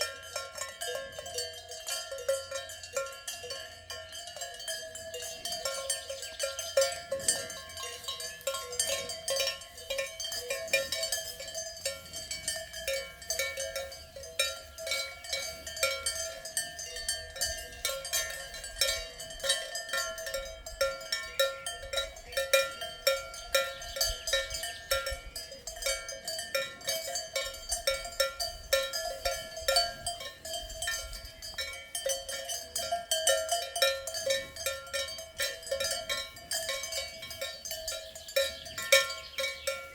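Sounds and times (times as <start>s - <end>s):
cow bells clanking: 0.0s - 39.9s.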